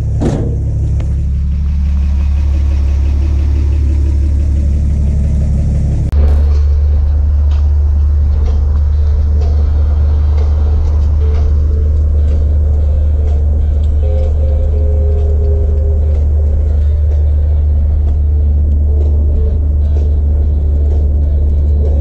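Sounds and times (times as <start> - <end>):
truck driving with road noise: 0.0 - 22.0
truck engine rumbling: 0.0 - 22.0.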